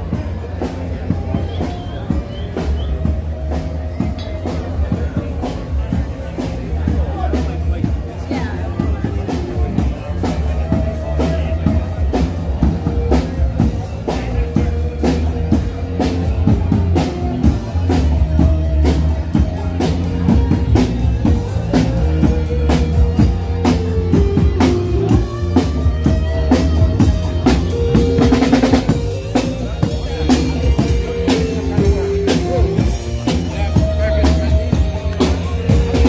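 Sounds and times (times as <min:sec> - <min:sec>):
bass line: 0:00.0 - 0:36.0
drum kit beat: 0:00.0 - 0:36.0.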